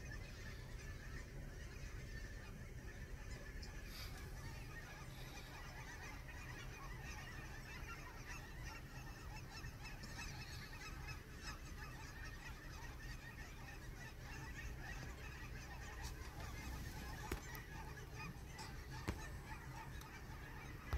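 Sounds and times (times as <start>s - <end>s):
geese honking: 0.0s - 20.9s.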